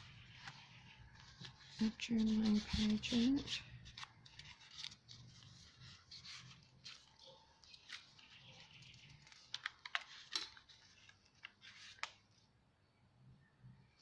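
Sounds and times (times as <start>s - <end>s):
paper and card rustling: 0.0s - 12.3s.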